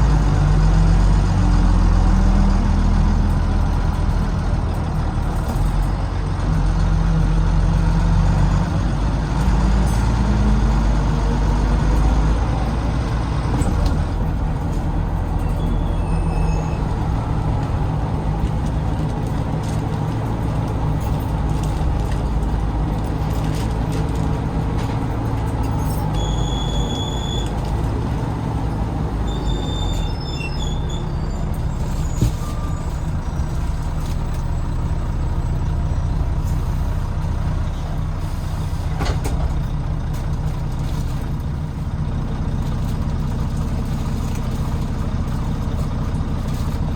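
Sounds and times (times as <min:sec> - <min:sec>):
bus diesel engine under load: 0:00.0 - 0:46.9.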